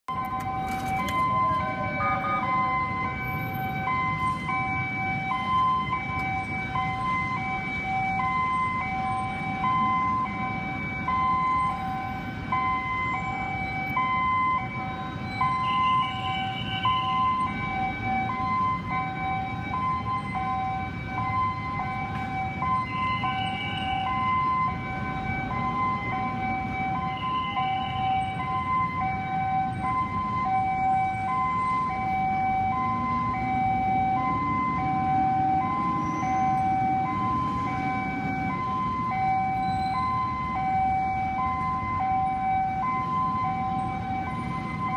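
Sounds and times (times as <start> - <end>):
ambulance siren two-tone: 0.0 - 44.9
street traffic rumble: 0.1 - 44.9.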